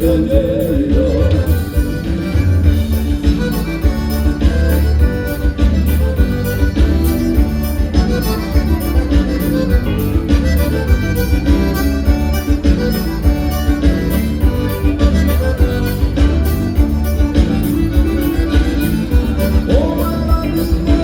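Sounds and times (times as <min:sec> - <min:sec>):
accordion: 0:00.0 - 0:21.0
bass: 0:00.0 - 0:21.0
dance band playing: 0:00.0 - 0:21.0
steady drum beat: 0:00.0 - 0:21.0.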